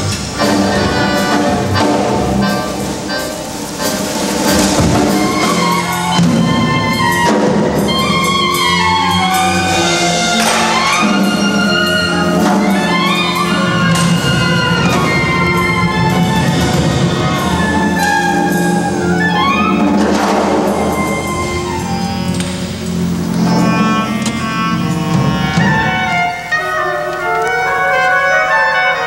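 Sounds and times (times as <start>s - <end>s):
instrumental music with brass and drums: 0.0s - 29.0s.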